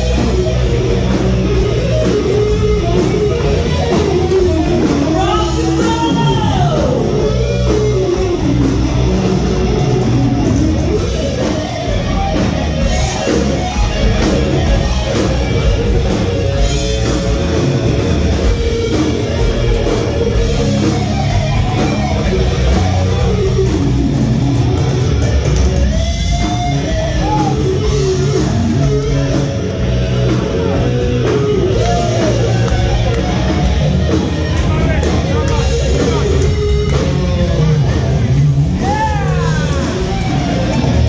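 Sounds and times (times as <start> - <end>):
electric guitar bending notes: 0.0 - 41.0
live heavy metal band: 0.0 - 41.0.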